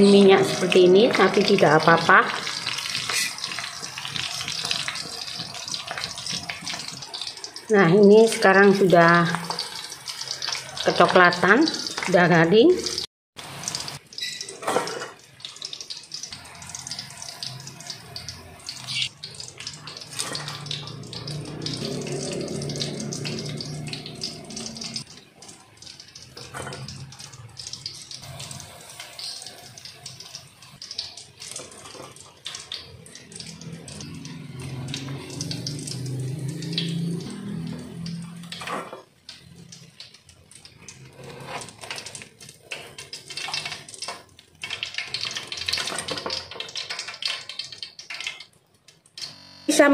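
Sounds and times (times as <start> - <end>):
chicken deep-frying in oil: 0.0 - 49.9.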